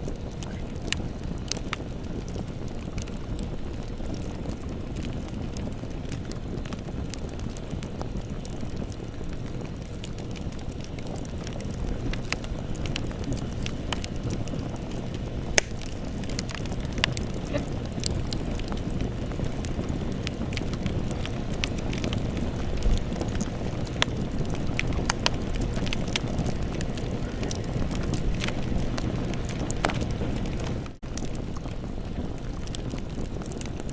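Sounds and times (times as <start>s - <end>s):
fire crackles and pops: 0.0s - 33.9s
low rumble of flames: 0.0s - 33.9s.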